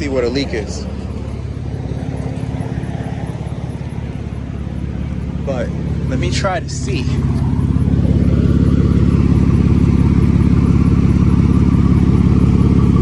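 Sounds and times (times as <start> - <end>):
car engine idling: 0.0 - 13.0
rapid exhaust pulsing: 0.0 - 13.0.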